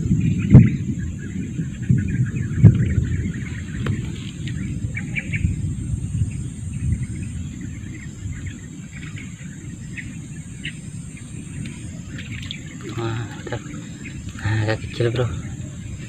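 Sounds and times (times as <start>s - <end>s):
high insect drone: 0.0s - 16.0s
low rumble: 0.0s - 16.0s.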